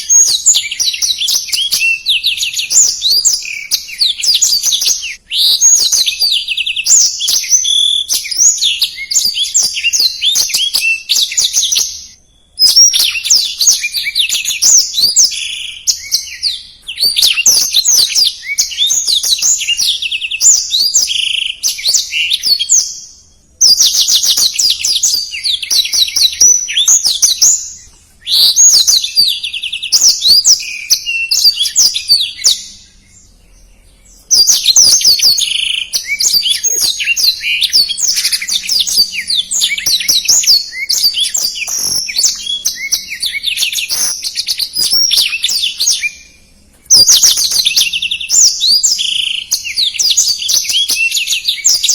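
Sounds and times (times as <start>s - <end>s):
bird singing high chirps and trills: 0.0s - 51.9s.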